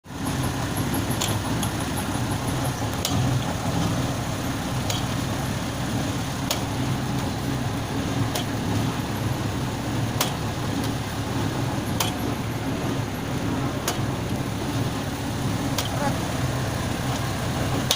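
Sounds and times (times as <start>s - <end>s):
machine low mechanical drone: 0.0s - 17.9s.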